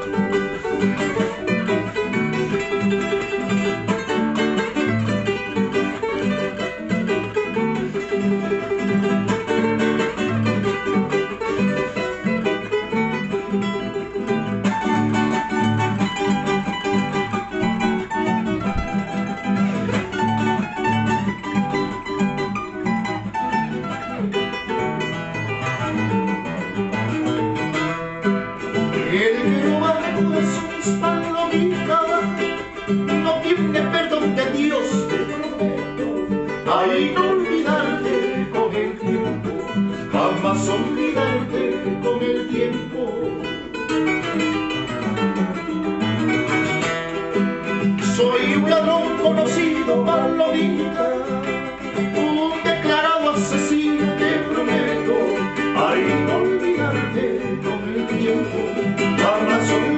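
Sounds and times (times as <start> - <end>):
guitar and charango strumming: 0.0 - 59.9.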